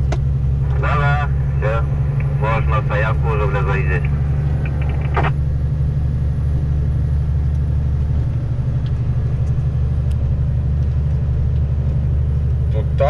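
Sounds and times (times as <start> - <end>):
truck engine and road noise: 0.0 - 13.0.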